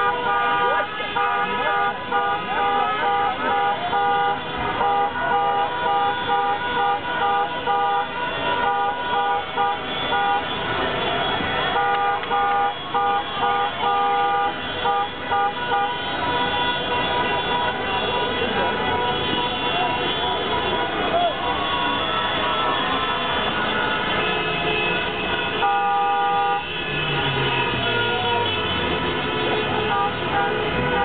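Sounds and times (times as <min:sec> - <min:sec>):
car horns honking: 0:00.0 - 0:31.0.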